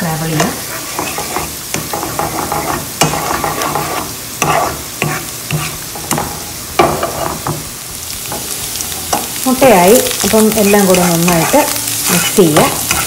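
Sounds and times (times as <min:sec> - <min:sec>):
eggs sizzling in oil: 0:00.0 - 0:13.0
spoon scraping a pan: 0:00.3 - 0:09.4, 0:10.2 - 0:13.0.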